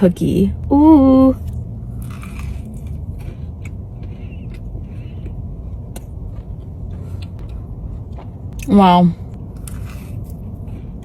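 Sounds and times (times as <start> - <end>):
steady low rumble: 0.0 - 11.0
person chewing cookie: 1.4 - 8.7, 9.3 - 11.0.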